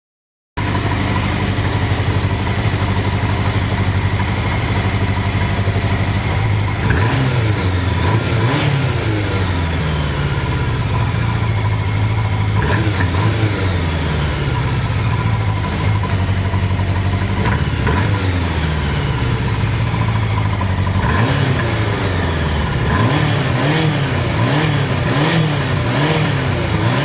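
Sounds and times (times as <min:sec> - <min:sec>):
motorcycle engine idling and revving: 0:00.6 - 0:27.0.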